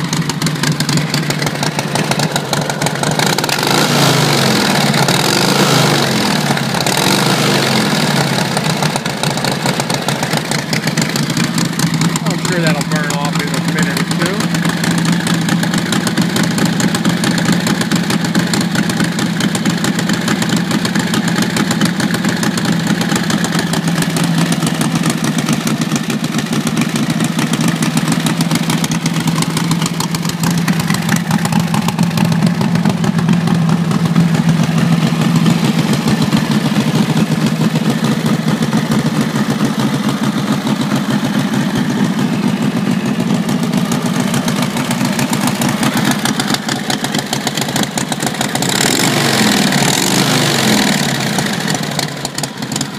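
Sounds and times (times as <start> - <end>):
motorcycle engine idling: 0.0 - 52.9.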